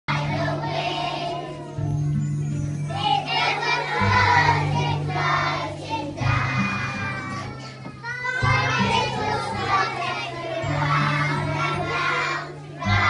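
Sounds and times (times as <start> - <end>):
children singing: 0.1 - 2.0, 2.9 - 13.0.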